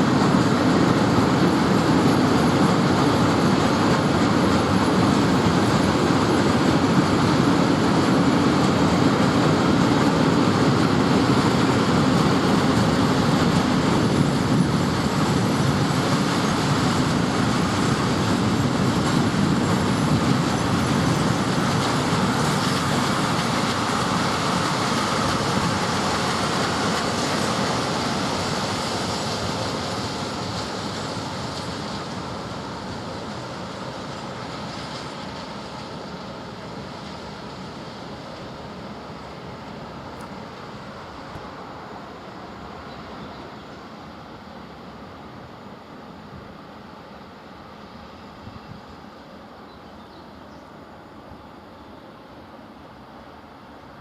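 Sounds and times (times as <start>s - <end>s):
train rumbling on tracks: 0.0s - 54.0s.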